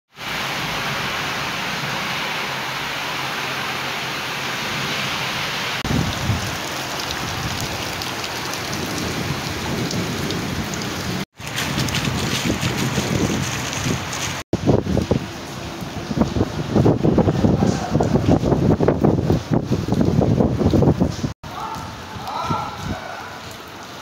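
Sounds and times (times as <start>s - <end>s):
heavy rain pouring: 0.1s - 24.0s
rain pelting a puddle: 0.1s - 24.0s.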